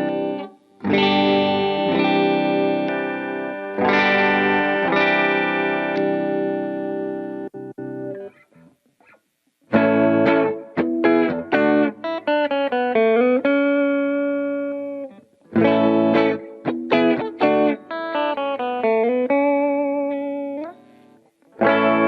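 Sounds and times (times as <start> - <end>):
electric guitar chords and notes: 0.0 - 22.0.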